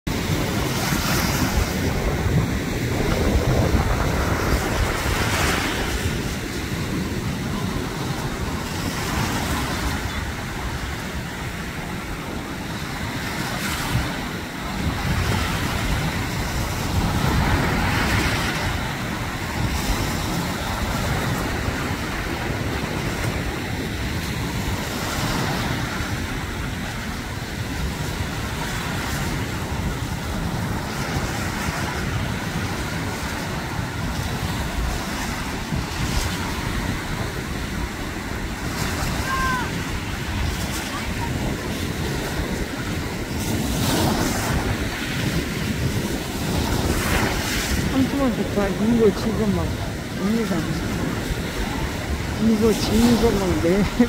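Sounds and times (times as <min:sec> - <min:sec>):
wind rumbling on microphone: 0:00.1 - 0:54.0.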